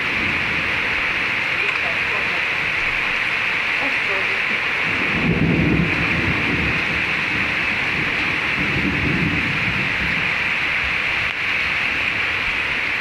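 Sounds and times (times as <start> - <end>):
rain falling steadily: 0.0 - 13.0
thunder rumbling low: 0.0 - 13.0.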